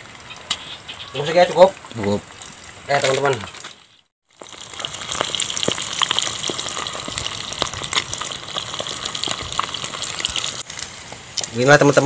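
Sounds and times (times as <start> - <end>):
eggs sizzling in hot oil: 0.0 - 12.0
oil popping and crackling: 0.0 - 12.0.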